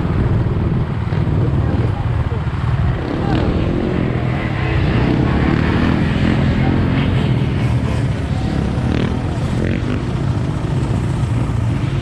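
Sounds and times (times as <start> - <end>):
dirt bike engines running: 0.0 - 12.0
voices: 0.4 - 12.0.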